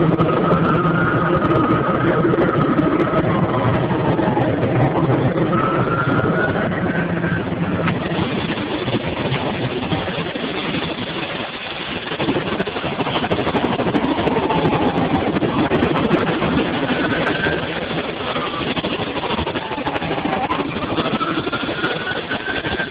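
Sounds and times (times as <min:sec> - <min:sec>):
helicopter rotor and engine: 0:00.0 - 0:22.9.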